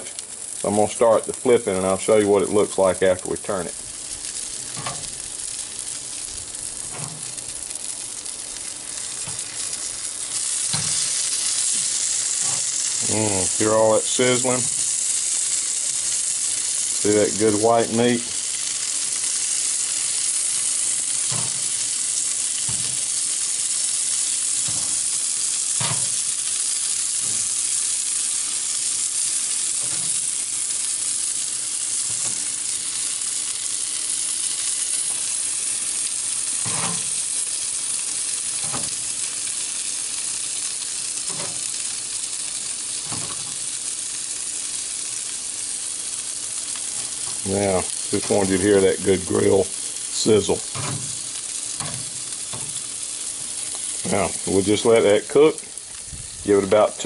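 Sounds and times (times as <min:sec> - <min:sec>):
meat sizzling on a grill: 0:00.0 - 0:57.0.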